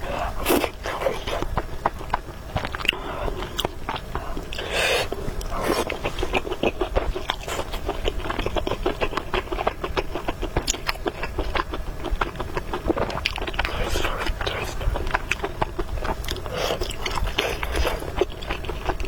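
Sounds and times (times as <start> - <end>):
wet chewing mouth clicks: 0.4 - 19.0.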